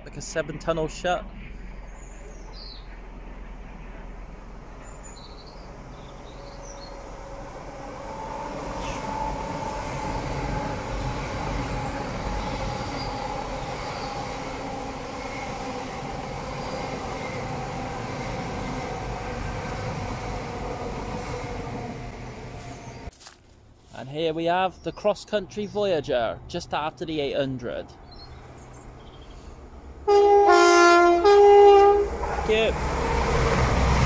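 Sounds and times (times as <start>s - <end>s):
diesel train rumbling past: 0.0s - 23.1s, 25.4s - 34.0s.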